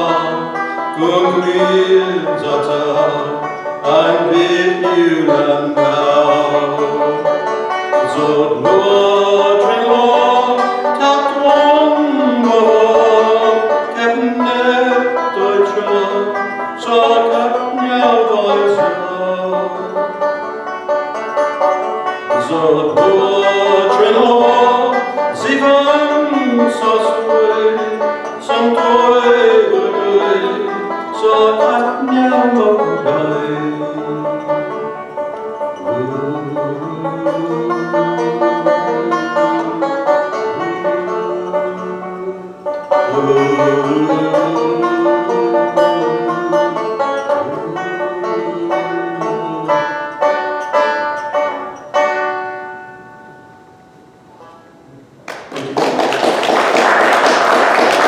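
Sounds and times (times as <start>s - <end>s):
plucked string folk melody: 0.0s - 55.2s.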